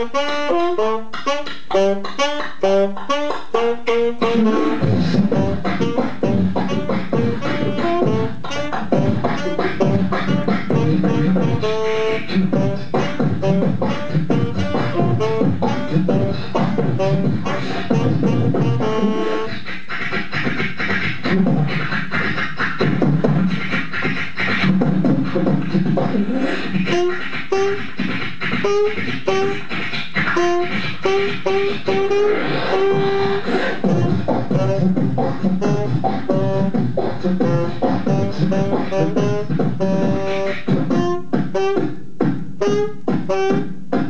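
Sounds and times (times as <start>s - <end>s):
saxophone melody: 0.0s - 19.7s, 26.8s - 44.0s
beatboxing into microphone: 0.0s - 44.0s.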